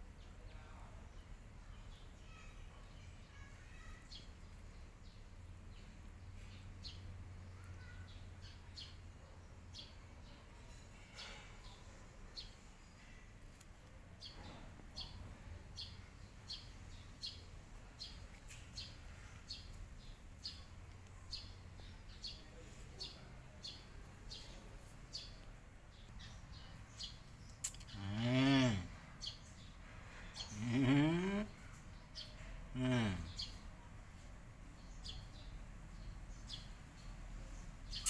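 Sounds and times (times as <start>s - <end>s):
small bird chirping: 0.2s - 38.0s.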